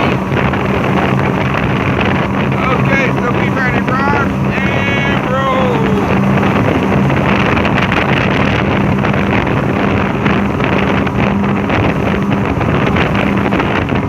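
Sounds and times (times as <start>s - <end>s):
outboard motors running: 0.0s - 14.0s
wind noise on microphone: 0.0s - 14.0s.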